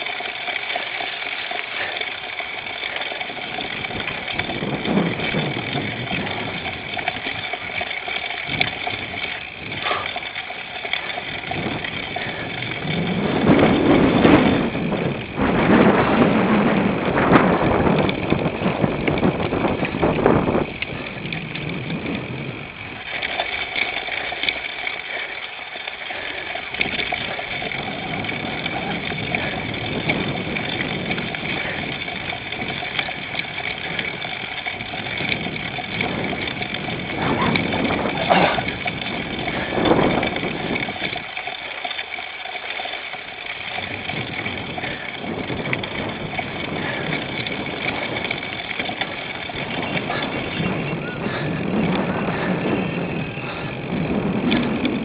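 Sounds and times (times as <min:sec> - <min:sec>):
bike rattling and whirring: 0:00.0 - 0:55.0
wind on microphone: 0:03.3 - 0:10.2, 0:11.0 - 0:23.4, 0:26.6 - 0:41.4, 0:43.6 - 0:55.0.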